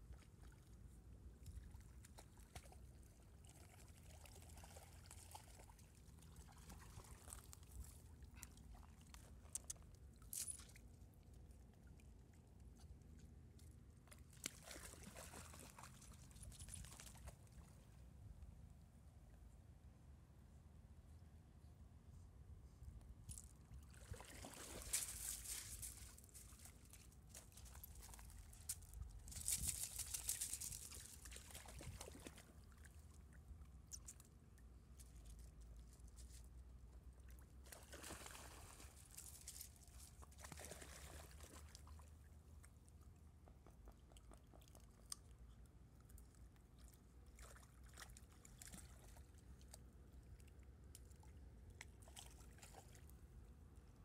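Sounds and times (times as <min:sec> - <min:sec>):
water splashing and sloshing: 0:00.0 - 0:17.9, 0:23.3 - 0:34.3, 0:37.2 - 0:45.2, 0:46.2 - 0:53.6.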